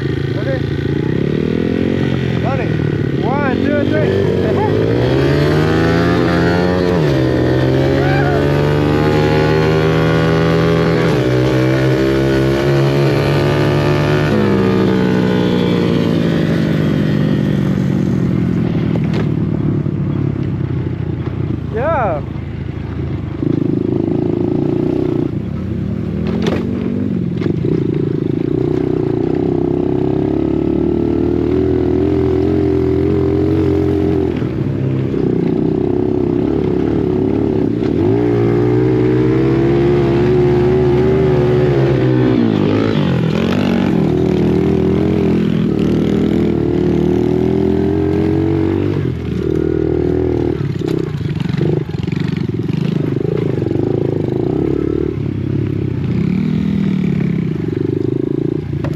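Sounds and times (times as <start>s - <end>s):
dirt bike engine revving: 0.0s - 19.6s, 26.2s - 58.9s.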